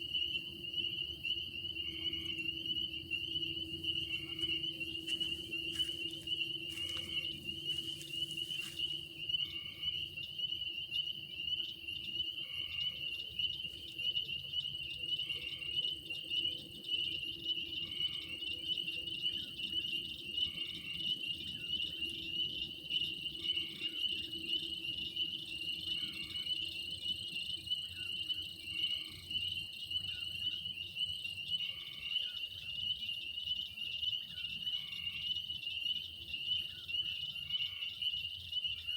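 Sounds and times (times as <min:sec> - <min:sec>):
crickets trilling: 0:00.0 - 0:38.9
short lower insect call: 0:00.0 - 0:38.9.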